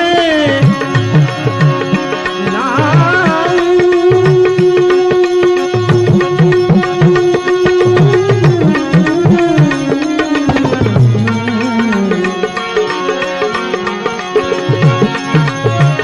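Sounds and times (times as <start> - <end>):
instrumental melody sliding: 0.0 - 16.0
hand drum strokes: 0.1 - 13.8.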